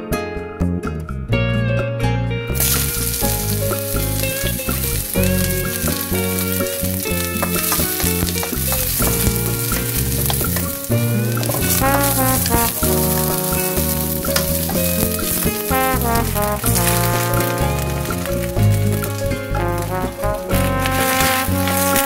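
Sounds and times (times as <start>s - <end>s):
onion and garlic sizzling in oil: 2.6s - 22.0s
wooden spatula stirring: 2.6s - 22.0s.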